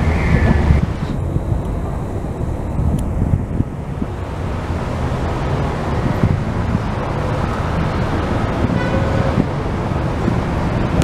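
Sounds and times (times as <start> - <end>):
street traffic: 0.0 - 11.0
wind buffeting microphone: 0.0 - 11.0.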